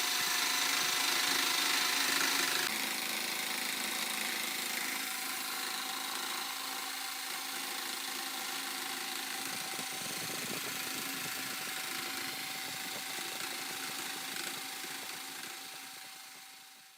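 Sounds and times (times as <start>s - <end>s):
power tool electric motor running: 0.0s - 16.9s.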